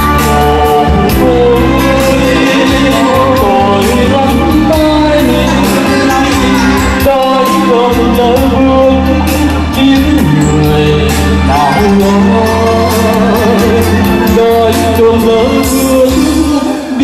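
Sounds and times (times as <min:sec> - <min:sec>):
backing track music: 0:00.0 - 0:17.0
man singing through microphone: 0:00.0 - 0:17.0.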